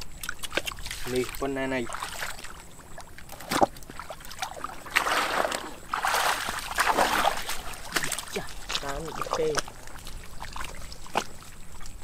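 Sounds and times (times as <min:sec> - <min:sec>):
splashing in muddy water: 0:00.0 - 0:12.0.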